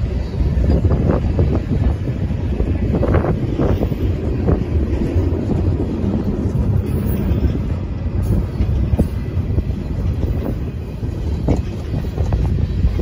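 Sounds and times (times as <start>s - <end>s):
freight train wheels rumbling: 0.0s - 13.0s
wheels clicking over rail joints: 0.0s - 13.0s
wind buffeting microphone: 0.0s - 13.0s.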